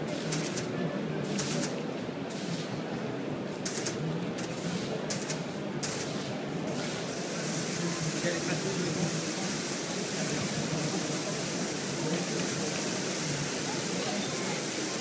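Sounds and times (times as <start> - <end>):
hall background noise: 0.0 - 15.0.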